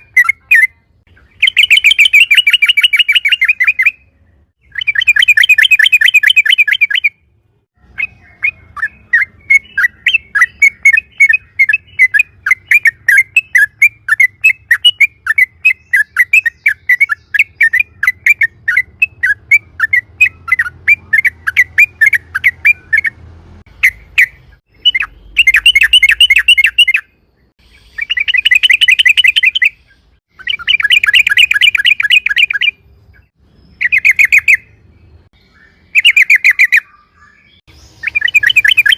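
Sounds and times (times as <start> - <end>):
bird chirping and chattering: 0.0 - 38.9.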